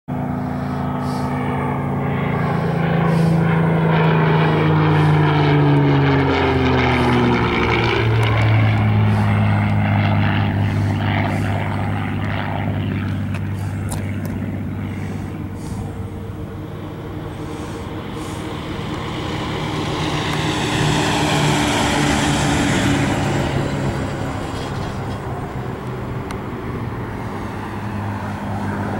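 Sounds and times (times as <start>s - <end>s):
propeller plane engine passing: 0.1s - 28.9s.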